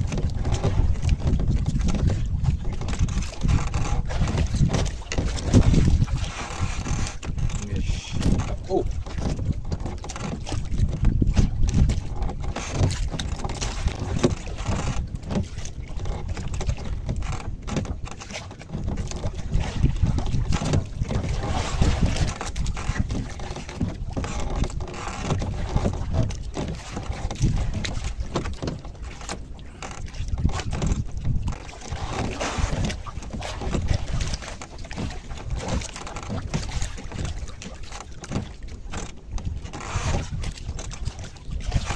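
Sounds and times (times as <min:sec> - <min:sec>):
waves washing against boat: 0:00.0 - 0:41.9
wind buffeting microphone: 0:00.0 - 0:41.9.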